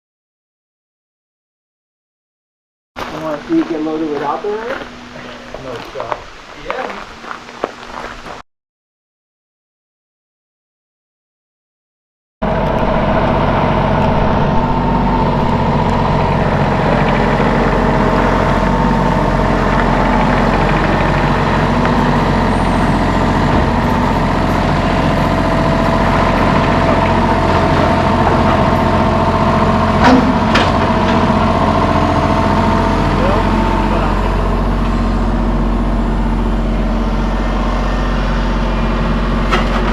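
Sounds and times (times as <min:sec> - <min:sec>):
diesel engine running: 0:03.0 - 0:08.4, 0:12.4 - 0:39.9.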